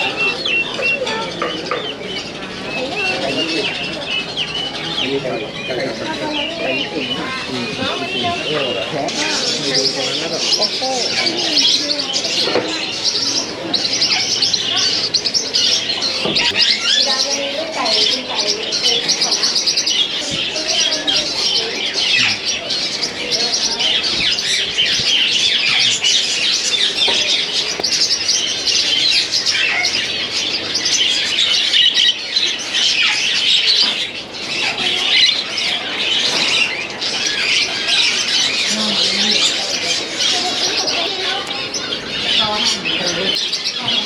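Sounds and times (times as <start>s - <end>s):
caged birds chirping: 0.0s - 44.0s.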